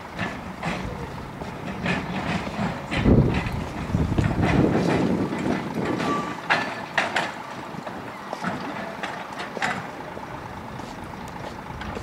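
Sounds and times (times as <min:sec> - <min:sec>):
wheels knocking over rail joints: 0:00.0 - 0:10.6, 0:11.4 - 0:12.0
tram rumbling past: 0:00.0 - 0:12.0.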